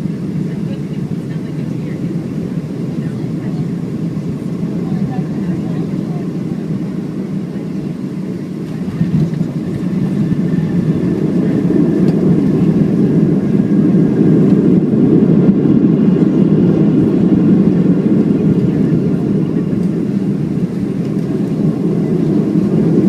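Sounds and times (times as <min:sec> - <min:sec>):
airliner cabin engine and airflow rush: 0:00.0 - 0:23.0.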